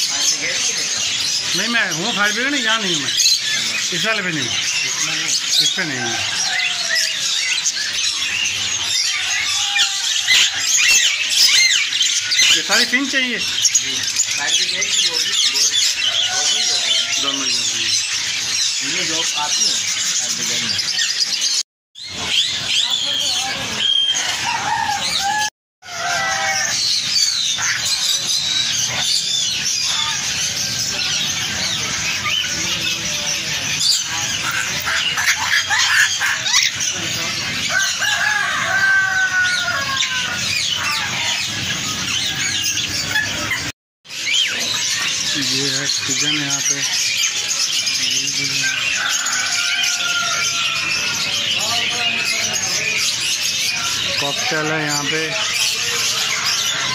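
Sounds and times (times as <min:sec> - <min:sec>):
caged birds chirping and squawking: 0:00.0 - 0:56.9.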